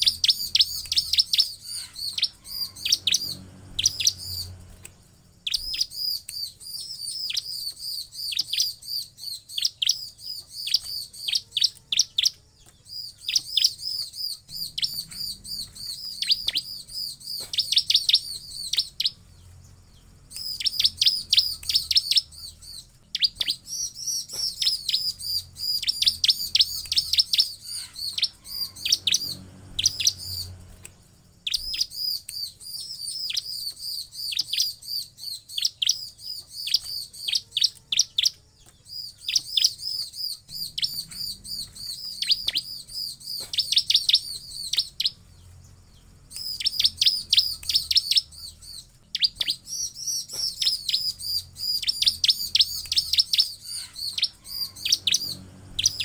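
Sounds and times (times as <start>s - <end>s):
bird singing rapid high chirps: 0.0s - 56.0s.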